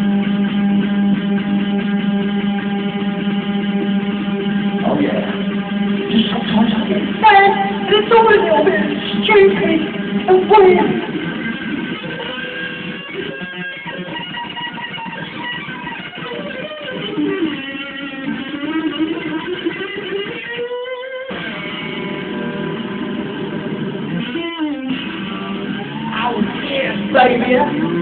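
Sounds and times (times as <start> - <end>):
electric guitar strummed chords: 0.0 - 28.0.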